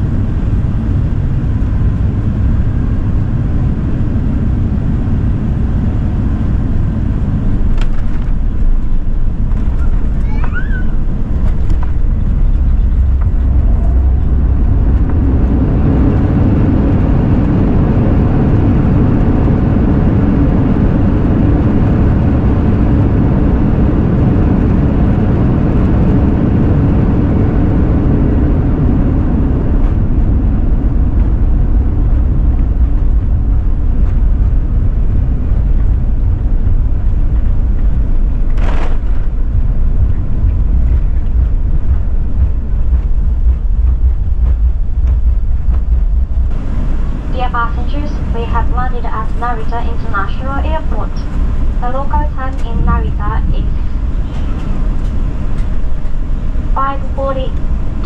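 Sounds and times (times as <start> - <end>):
rush of engines and airflow: 0.0 - 58.0.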